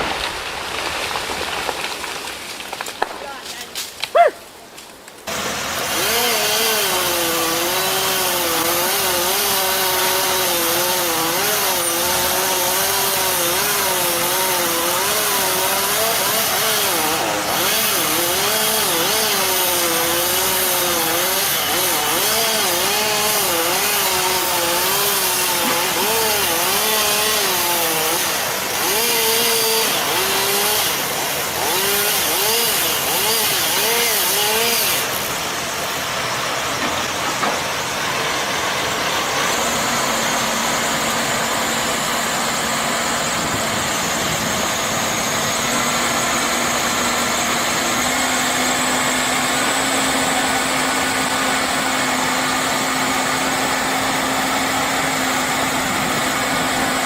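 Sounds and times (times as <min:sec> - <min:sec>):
chainsaw running and cutting: 0:05.2 - 0:57.0.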